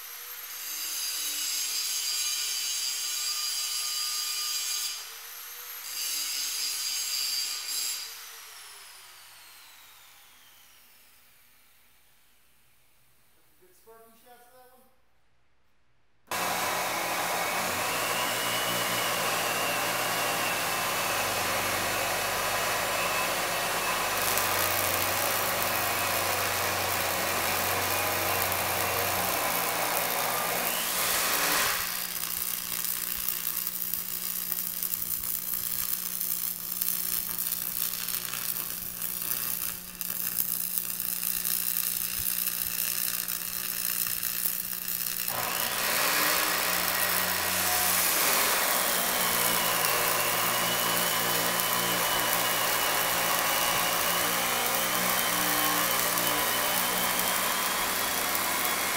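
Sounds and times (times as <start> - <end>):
arc welding hiss and crackle: 0.0 - 11.6, 17.8 - 58.9.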